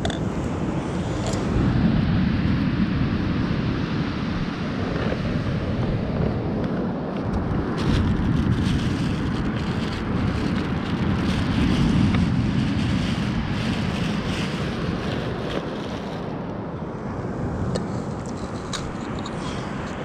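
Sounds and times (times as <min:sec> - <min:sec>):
wind blowing across microphone: 0:00.0 - 0:20.0
surf washing: 0:00.1 - 0:20.0.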